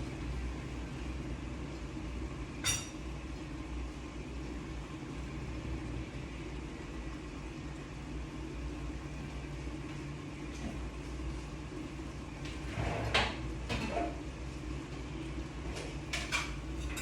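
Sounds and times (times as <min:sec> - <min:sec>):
low kitchen hum: 0:00.0 - 0:17.0.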